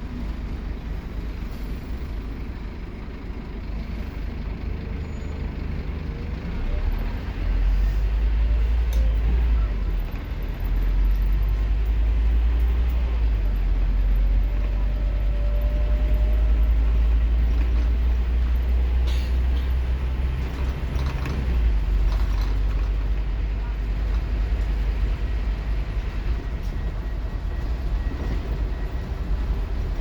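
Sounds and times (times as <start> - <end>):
bus diesel engine droning: 0.0 - 30.0.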